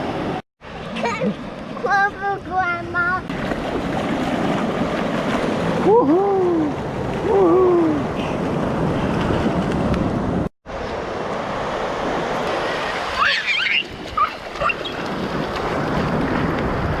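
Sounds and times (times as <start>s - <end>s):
ocean surf washing on beach: 0.0s - 17.0s
wind on microphone: 2.2s - 11.0s, 12.0s - 17.0s.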